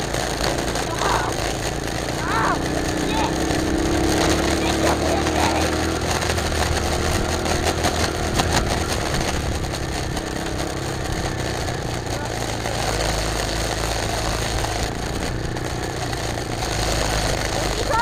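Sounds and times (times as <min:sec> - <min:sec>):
rough rushing noise: 0:00.0 - 0:18.0
small engine running: 0:00.0 - 0:18.0.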